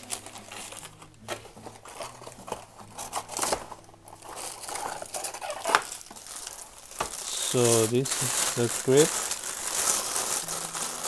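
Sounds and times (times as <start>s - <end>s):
cardboard rustling and scraping: 0.0s - 11.0s.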